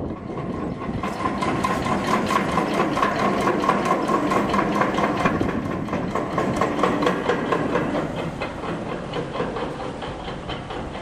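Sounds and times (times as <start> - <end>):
ferry engine hum and whine: 0.0 - 11.0.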